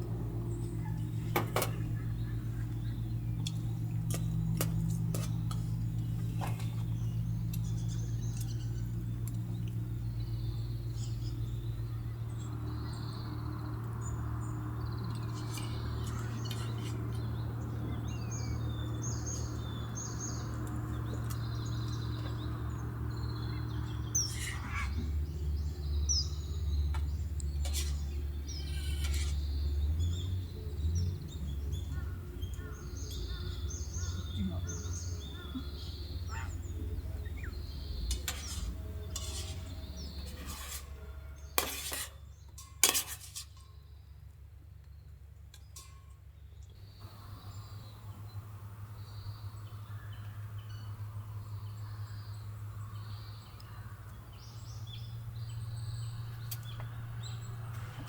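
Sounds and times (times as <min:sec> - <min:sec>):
small birds chirping: 0:00.0 - 0:58.0
steady low hum: 0:00.0 - 0:58.0.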